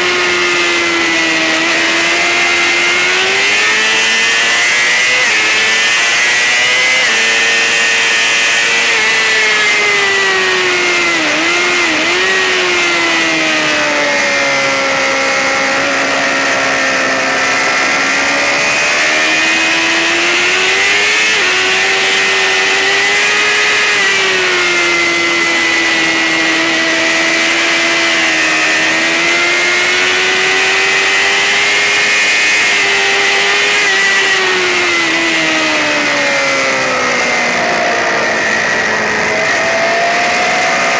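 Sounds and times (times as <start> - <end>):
motorcycle engine revving high: 0.0 - 40.9.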